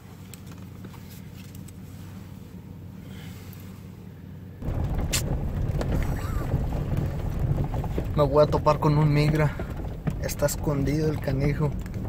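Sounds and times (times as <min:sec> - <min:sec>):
low rumble inside truck cab: 0:00.0 - 0:12.0.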